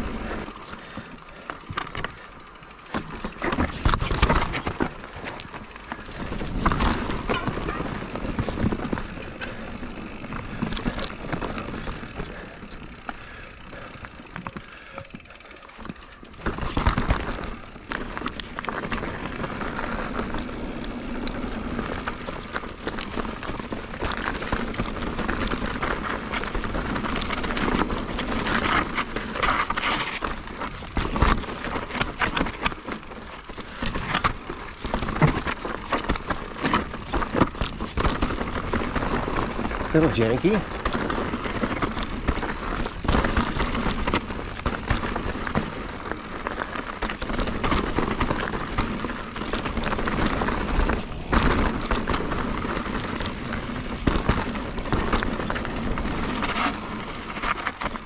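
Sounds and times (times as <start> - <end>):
bike rattling and knocking: 0.0 - 58.0
bike tyres rolling over stones: 0.0 - 58.0.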